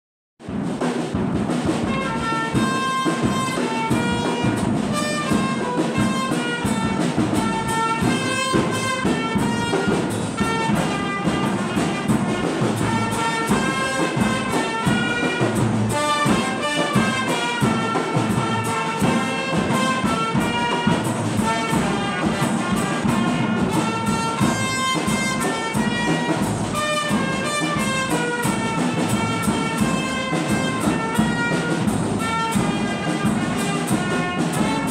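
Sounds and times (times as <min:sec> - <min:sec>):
brass-like melody: 0:00.4 - 0:34.9
steady percussion beat: 0:00.4 - 0:34.9.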